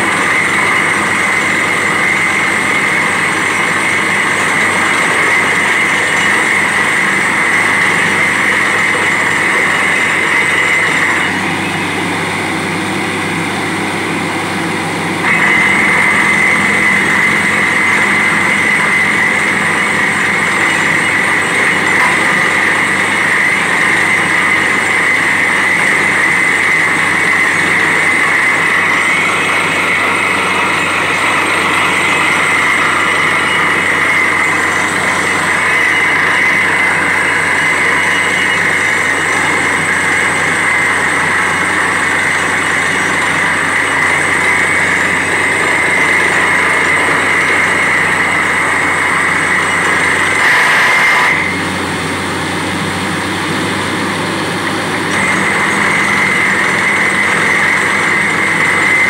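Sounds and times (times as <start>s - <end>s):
drilling rig engine running: 0.0s - 59.0s.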